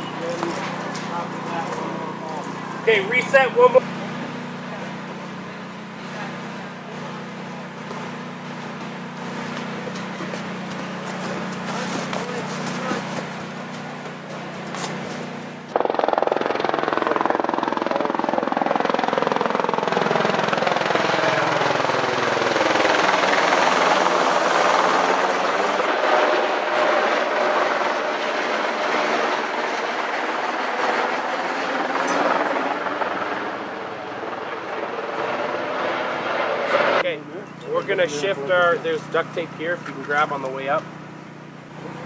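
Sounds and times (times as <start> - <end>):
helicopter flying overhead: 0.0 - 42.0.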